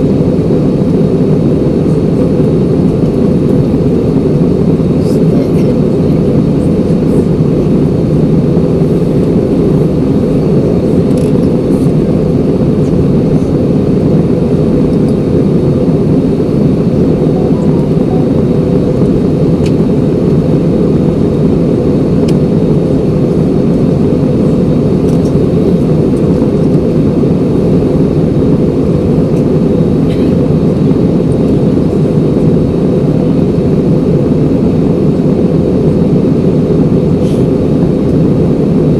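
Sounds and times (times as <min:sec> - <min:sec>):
jet engines and airflow rushing: 0:00.0 - 0:38.9.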